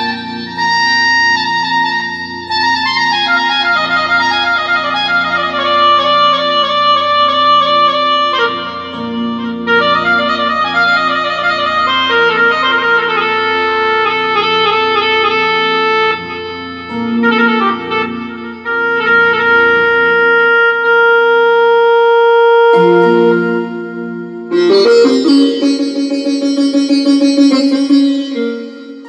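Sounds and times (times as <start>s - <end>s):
keyboard held low notes: 0.0s - 29.0s
keyboard lead melody: 0.0s - 29.0s.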